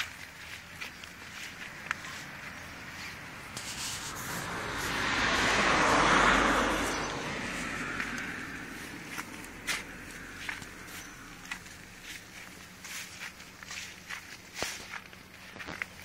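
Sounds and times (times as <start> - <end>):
vehicle passing: 0.0 - 14.2.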